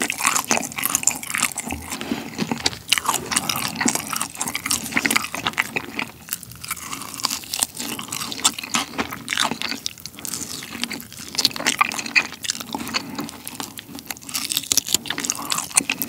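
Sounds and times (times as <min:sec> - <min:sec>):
chewing: 0:00.0 - 0:16.0
crisp chicken coating crunching: 0:00.0 - 0:16.0.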